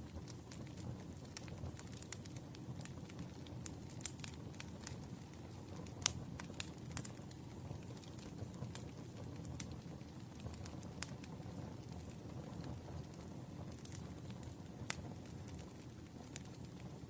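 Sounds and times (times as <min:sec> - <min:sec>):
burning logs popping and snapping: 0:00.0 - 0:17.0
low rumble of flame: 0:00.0 - 0:17.0.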